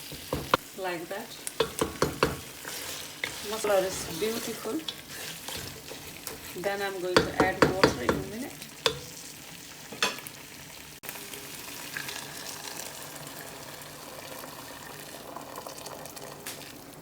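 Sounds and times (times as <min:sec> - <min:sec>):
meat frying in a pot: 0:00.0 - 0:17.0.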